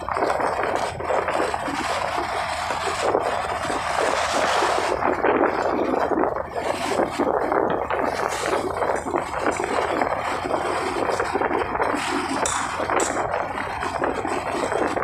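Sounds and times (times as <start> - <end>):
motorcycle road noise: 0.0 - 15.0
wind buffeting microphone: 0.0 - 15.0.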